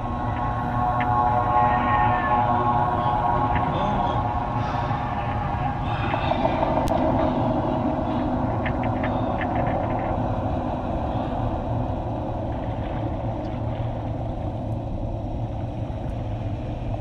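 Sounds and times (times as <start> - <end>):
low mechanical machinery hum: 0.0 - 17.0.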